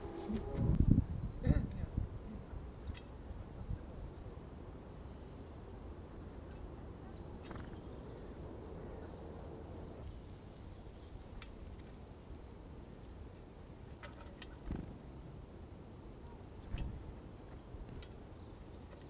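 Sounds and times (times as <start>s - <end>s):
faint bird chirps: 1.8s - 4.3s, 5.1s - 11.2s, 11.9s - 19.0s.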